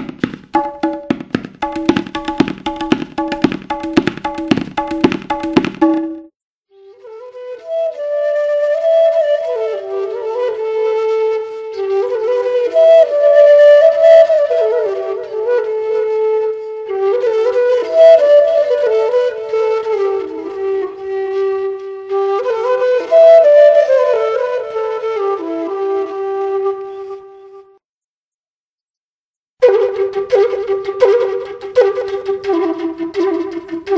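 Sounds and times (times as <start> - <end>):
bamboo flute melody: 0.2 - 27.8, 29.6 - 33.9.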